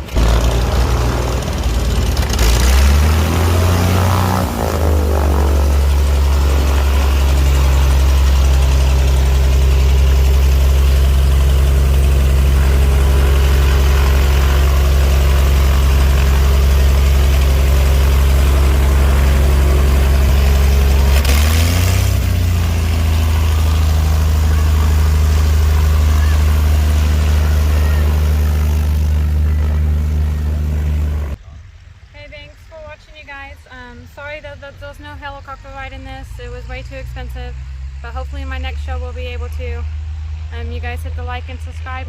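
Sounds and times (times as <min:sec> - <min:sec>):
engine humming steadily: 0:00.0 - 0:42.0.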